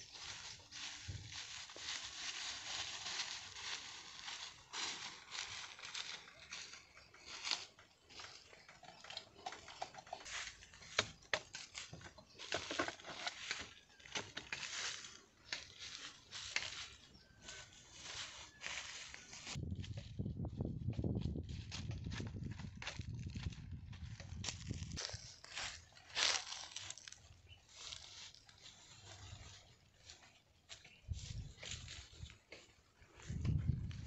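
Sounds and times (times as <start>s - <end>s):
dry leaves crunching underfoot: 0.0s - 20.3s, 21.2s - 34.0s.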